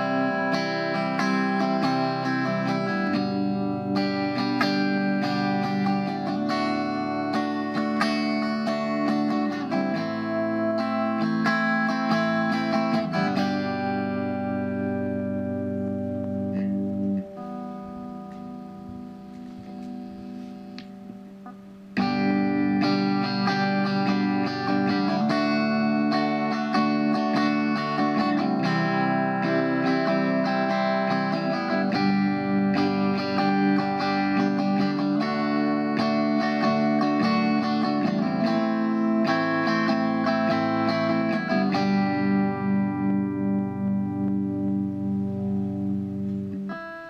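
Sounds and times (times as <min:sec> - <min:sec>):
electric guitar chords and notes: 0:00.0 - 0:47.0.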